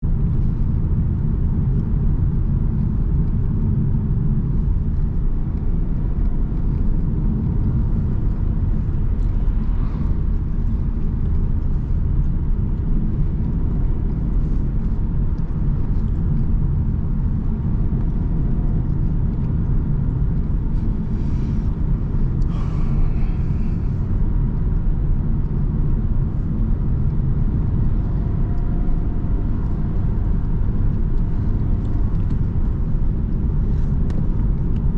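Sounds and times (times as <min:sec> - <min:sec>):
car engine and tyre rumble: 0:00.0 - 0:34.9.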